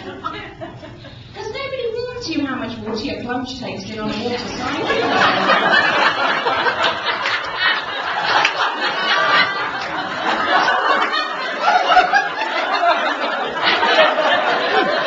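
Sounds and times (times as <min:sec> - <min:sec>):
audience laughing: 0:00.0 - 0:01.2, 0:04.1 - 0:15.0.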